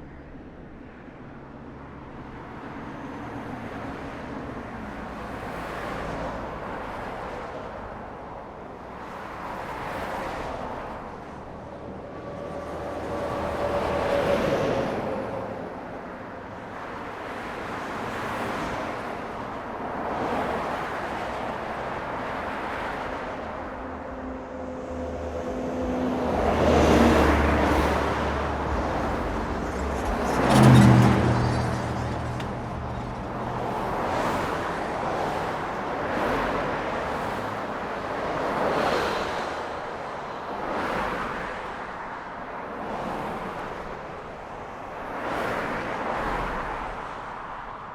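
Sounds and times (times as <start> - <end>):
vehicles passing: 0.0 - 47.9.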